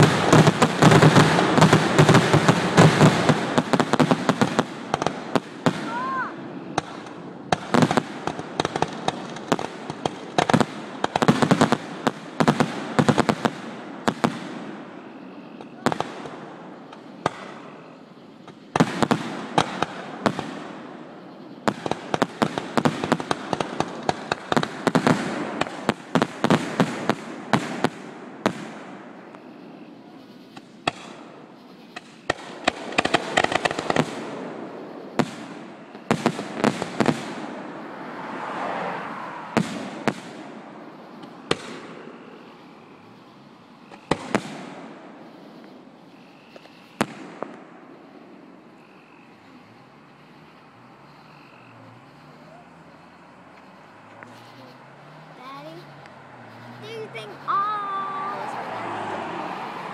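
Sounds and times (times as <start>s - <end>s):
fireworks bursting with bangs: 0.0s - 59.9s
fireworks crackling: 0.0s - 59.9s.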